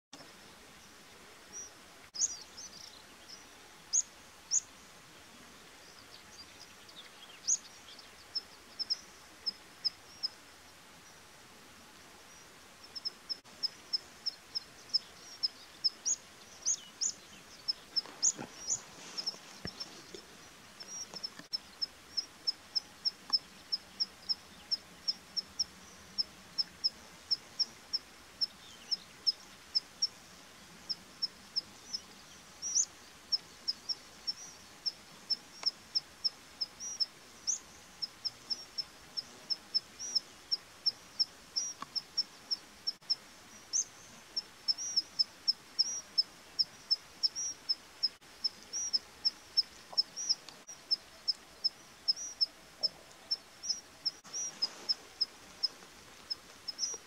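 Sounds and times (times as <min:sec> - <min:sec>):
faint outdoor background: 0:00.0 - 0:57.0
small bird chirping: 0:01.5 - 0:04.8, 0:05.9 - 0:10.4, 0:12.3 - 0:30.2, 0:30.8 - 0:57.0.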